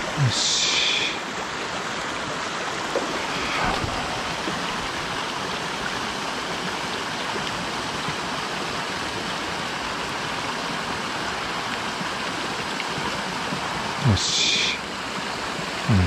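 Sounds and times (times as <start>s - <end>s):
stream rushing over weir: 0.0s - 16.0s.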